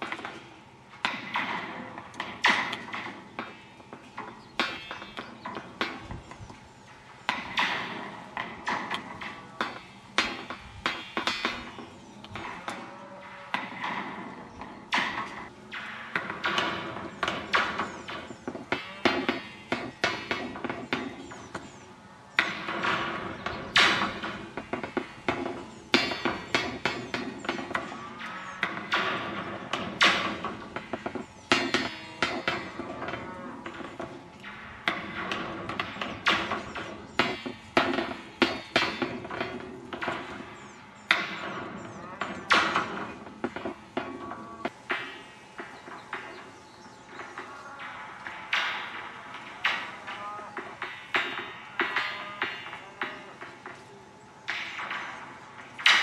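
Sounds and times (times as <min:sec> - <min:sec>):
metal rods clanking: 0:00.0 - 0:56.0.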